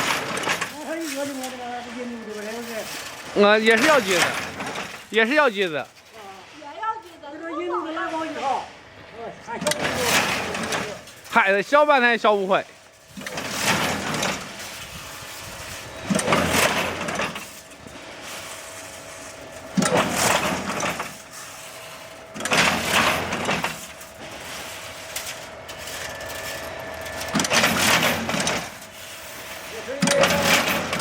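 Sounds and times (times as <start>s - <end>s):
wire mesh machine humming: 0.0s - 31.0s.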